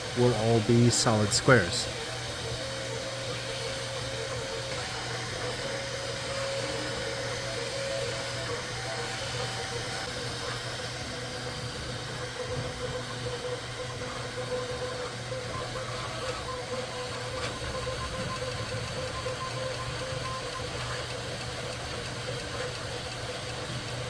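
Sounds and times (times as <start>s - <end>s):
fan hum: 0.0s - 24.0s
printer motors whining: 0.0s - 24.0s.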